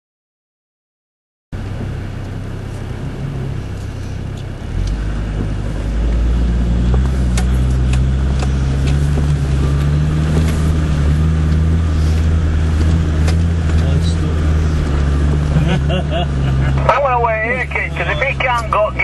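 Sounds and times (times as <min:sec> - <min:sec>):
engine droning under load: 0:01.6 - 0:19.0.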